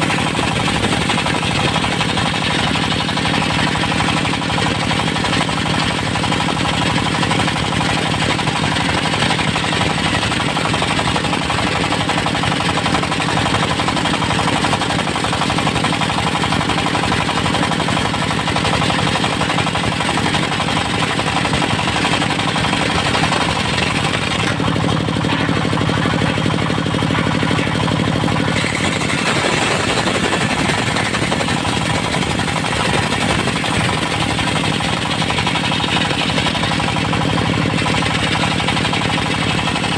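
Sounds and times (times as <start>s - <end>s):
circular saw blade cutting log: 0.0s - 39.9s
pulsing engine: 0.0s - 39.9s.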